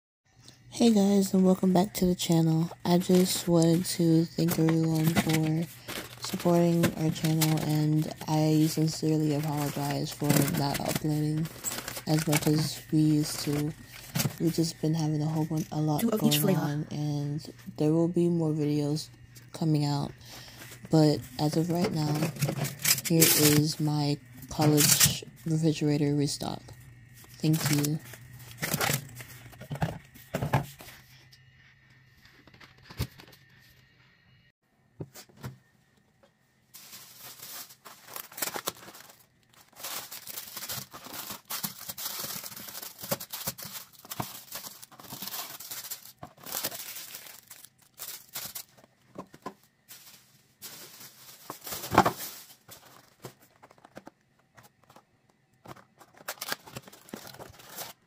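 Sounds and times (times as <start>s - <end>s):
food packaging rustling and crinkling: 2.0s - 16.0s, 19.8s - 31.4s, 32.0s - 33.7s, 36.7s - 58.0s.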